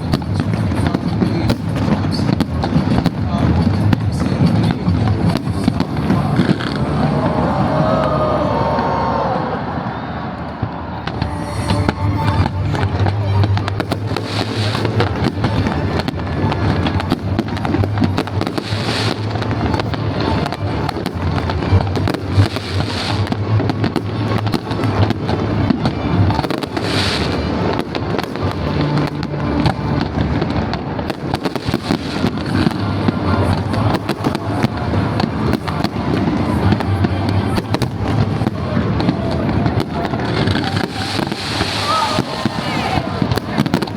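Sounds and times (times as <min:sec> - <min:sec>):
fireworks bangs and crackles: 0:00.0 - 0:43.9
music: 0:00.0 - 0:43.9.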